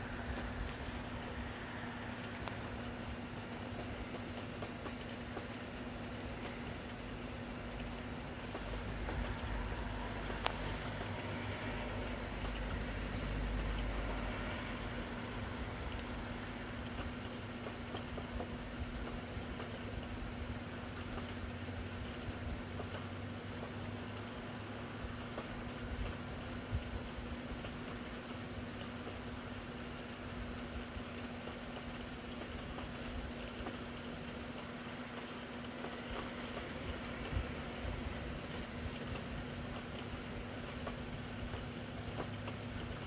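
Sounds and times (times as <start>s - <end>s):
rain pattering: 0.0s - 43.0s.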